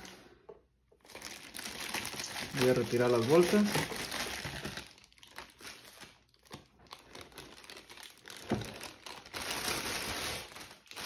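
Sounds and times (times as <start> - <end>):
plastic bags crinkling: 1.0 - 11.0.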